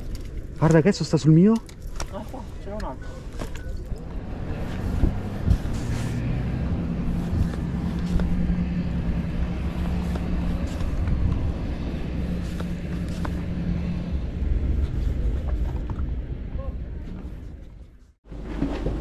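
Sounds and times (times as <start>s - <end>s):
engine humming: 0.0s - 19.0s
rumbling background: 0.0s - 19.0s.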